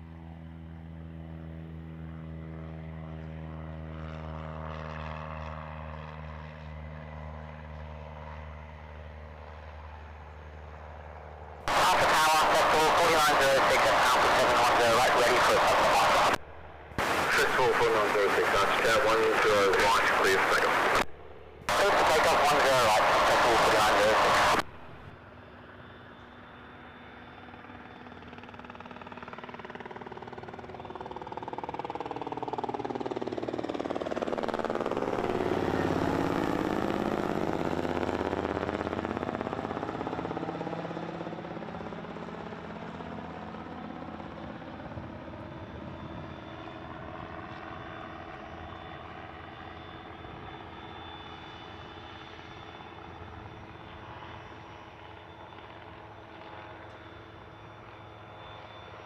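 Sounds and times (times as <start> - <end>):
aircraft engine on takeoff: 0.0 - 42.6, 43.6 - 59.0.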